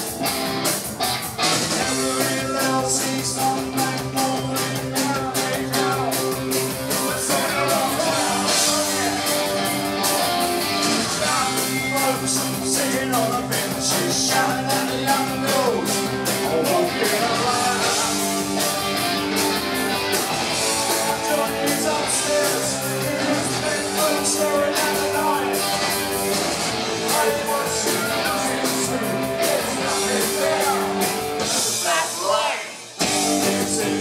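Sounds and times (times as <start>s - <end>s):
bass guitar: 0.0s - 32.0s, 33.0s - 34.0s
distorted electric guitars: 0.0s - 34.0s
drums keeping steady beat: 0.0s - 34.0s.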